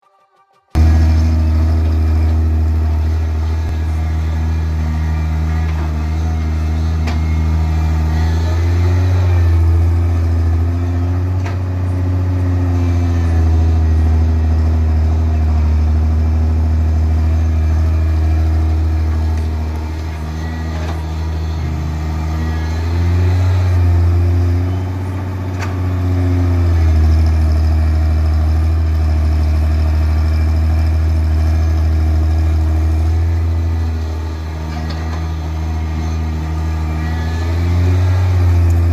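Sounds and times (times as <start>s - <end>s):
heavy diesel engine revving: 0.8s - 38.9s.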